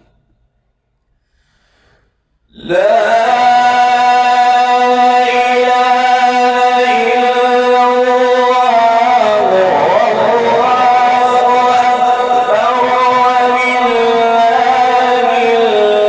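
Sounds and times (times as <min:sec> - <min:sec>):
man reciting a long melodic note: 0:02.5 - 0:16.0.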